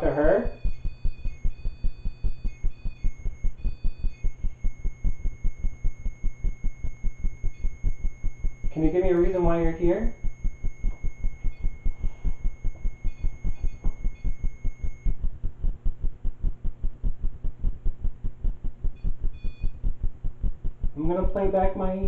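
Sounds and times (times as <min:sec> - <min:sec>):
faint high whine: 0:00.0 - 0:22.0
low throbbing pulses: 0:00.0 - 0:22.0.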